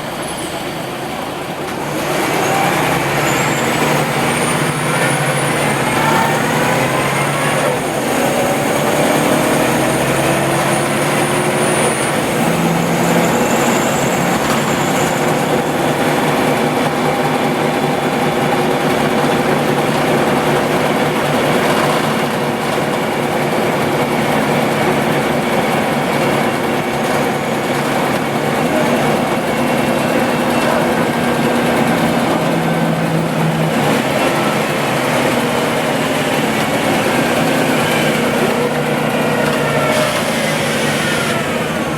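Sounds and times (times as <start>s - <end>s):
bus engine and drivetrain whine: 0.0s - 41.9s.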